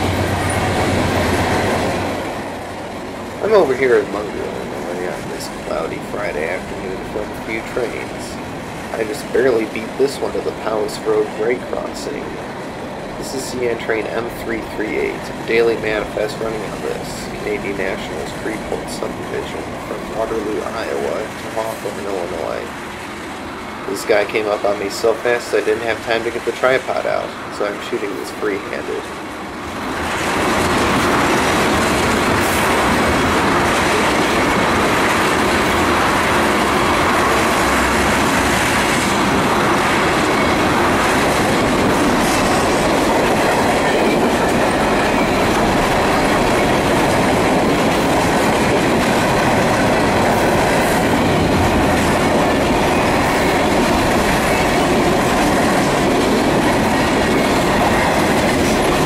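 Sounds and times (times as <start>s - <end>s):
freight cars rolling by: 0.0s - 59.0s.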